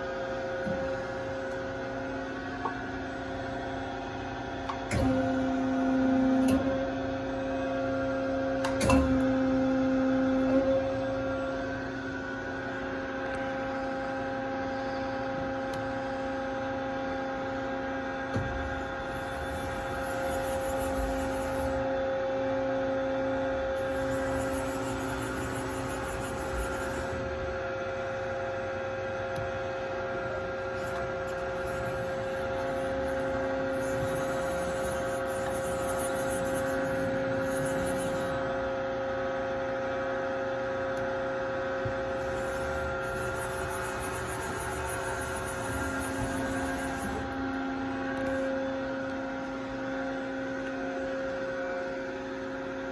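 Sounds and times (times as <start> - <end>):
machine electric hum and whine: 0.0 - 52.9.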